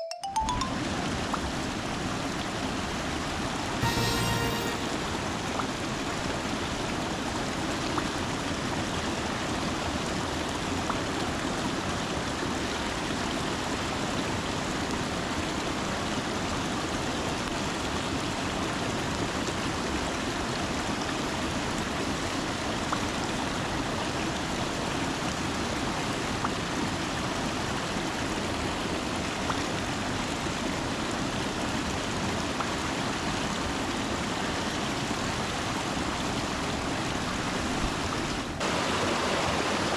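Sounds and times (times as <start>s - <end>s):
stream water rushing: 3.8s - 39.9s.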